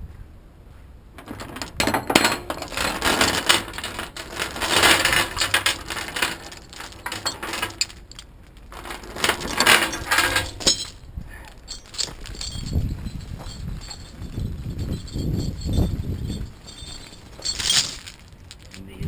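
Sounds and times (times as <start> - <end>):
chains rattling on steel deck: 1.2 - 18.9.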